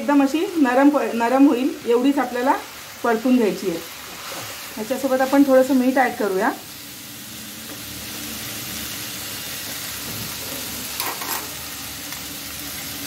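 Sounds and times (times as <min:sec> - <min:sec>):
cabbage sizzling in hot oil: 0:00.0 - 0:13.0.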